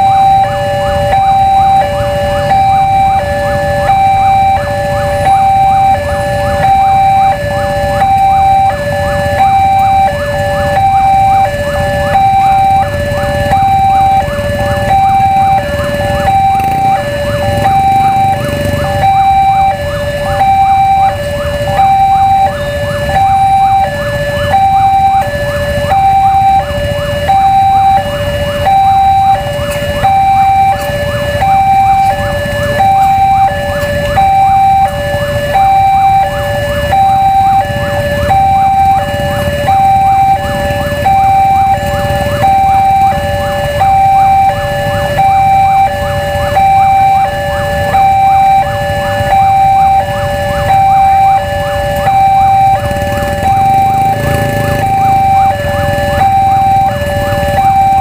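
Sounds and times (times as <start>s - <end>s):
level crossing two-tone alarm: 0.0s - 58.0s
low rumble of traffic: 0.0s - 58.0s.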